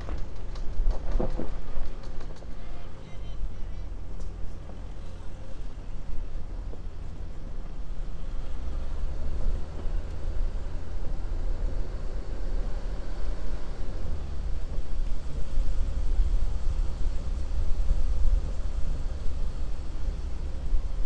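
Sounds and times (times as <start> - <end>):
diesel engine rumbling: 0.0 - 21.0
tyres on a dirt trail: 0.0 - 21.0.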